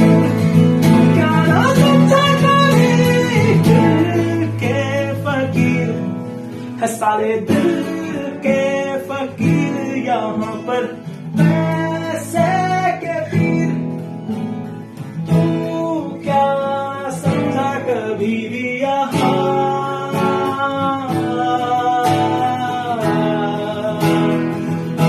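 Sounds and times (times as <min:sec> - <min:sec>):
person singing: 0:00.0 - 0:14.0, 0:15.3 - 0:25.0
acoustic guitar strumming: 0:00.0 - 0:25.0.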